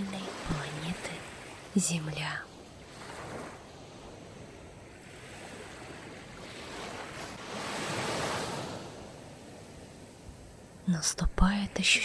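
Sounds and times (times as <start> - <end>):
sea waves washing on shore: 0.0 - 12.0.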